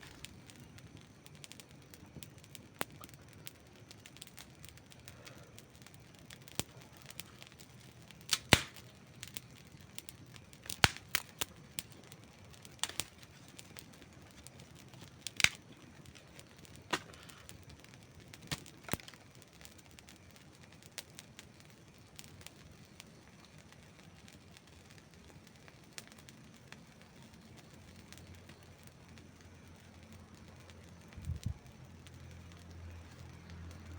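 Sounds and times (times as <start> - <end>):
campfire popping and crackling: 0.0 - 33.9.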